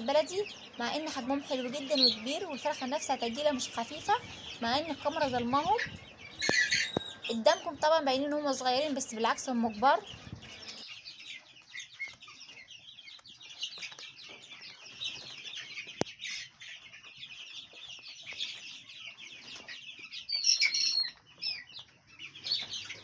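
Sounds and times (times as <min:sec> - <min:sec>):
chicks cheeping: 0:00.0 - 0:23.0.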